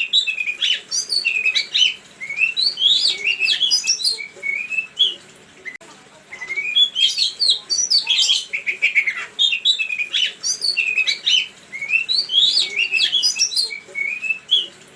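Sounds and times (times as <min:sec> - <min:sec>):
songbird chirping and whistling: 0:00.0 - 0:14.8.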